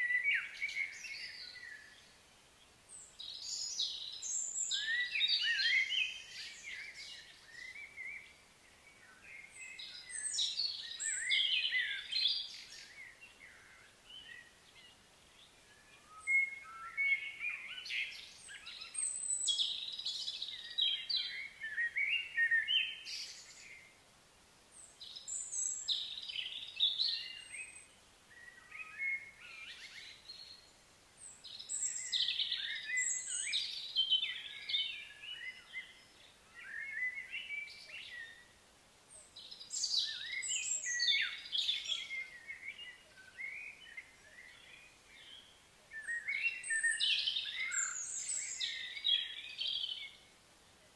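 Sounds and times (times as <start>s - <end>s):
songbirds twittering: 0.0s - 24.1s, 24.7s - 50.9s.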